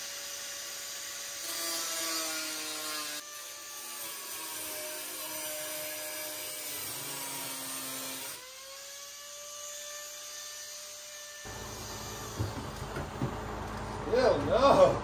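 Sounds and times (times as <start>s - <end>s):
angle grinder cutting: 0.0s - 13.1s.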